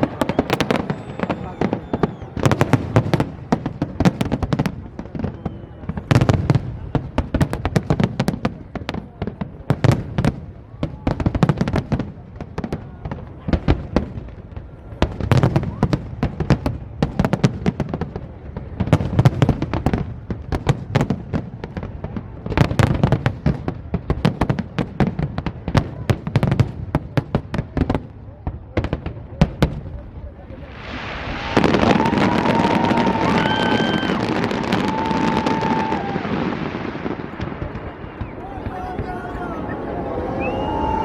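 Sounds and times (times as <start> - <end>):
fireworks cracking and popping: 0.0 - 39.7
fireworks booms: 0.0 - 41.0.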